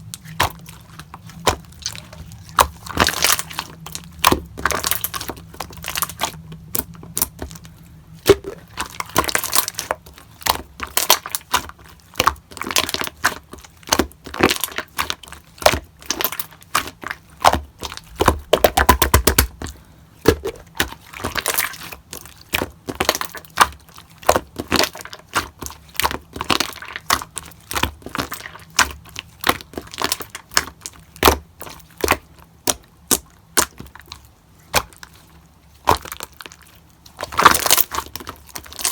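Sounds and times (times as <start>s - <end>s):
slime popping and crackling: 0.0s - 38.9s.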